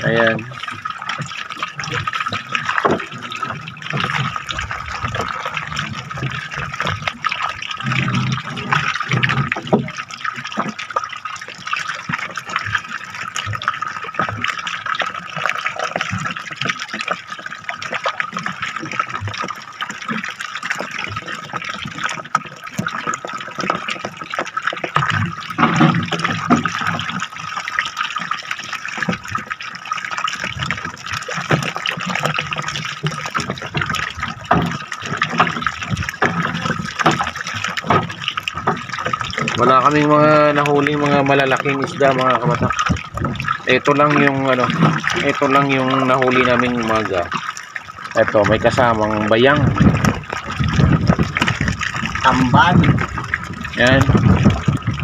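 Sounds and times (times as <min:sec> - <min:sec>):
water splashing and running: 0:00.0 - 0:55.0.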